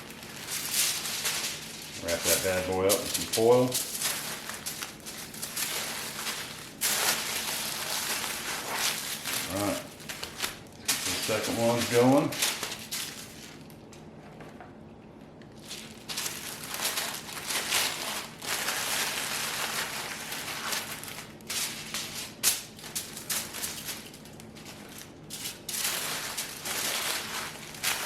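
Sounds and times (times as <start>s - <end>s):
sandwich wrap crinkling: 0.0s - 14.1s, 15.2s - 28.0s.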